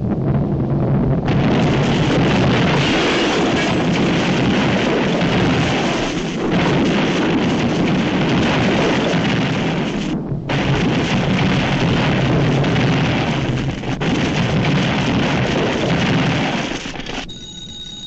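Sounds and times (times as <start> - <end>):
cartoon explosions: 1.3 - 17.3
crashing debris: 1.3 - 17.3.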